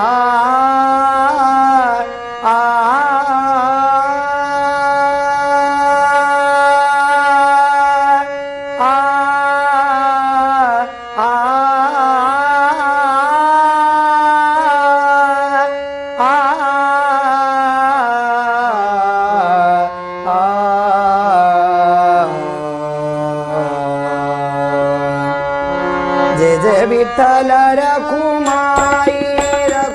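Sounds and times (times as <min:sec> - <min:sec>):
man singing devotional song: 0:00.0 - 0:22.4, 0:26.3 - 0:29.9
harmonium notes: 0:00.0 - 0:29.9.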